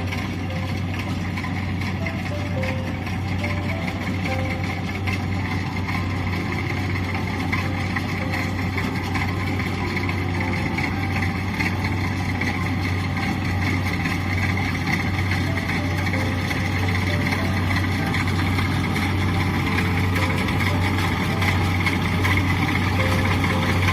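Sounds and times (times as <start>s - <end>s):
diesel engine low hum: 0.0s - 23.9s.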